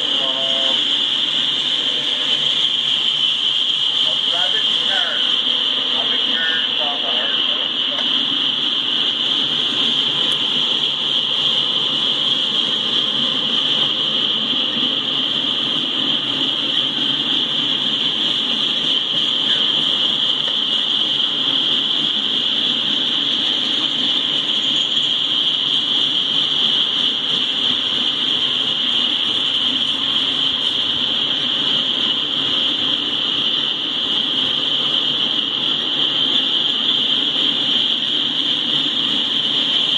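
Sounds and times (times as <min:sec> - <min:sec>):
high-pitched hiss: 0:00.0 - 0:39.9
train wheels rumbling on rail: 0:00.0 - 0:39.9.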